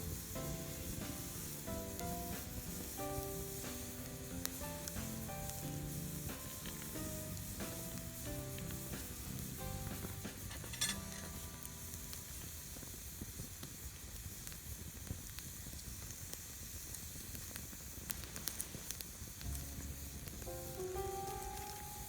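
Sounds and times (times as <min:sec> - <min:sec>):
campfire crackling and hissing: 0:00.0 - 0:22.0
sharp fire pops: 0:00.0 - 0:22.0.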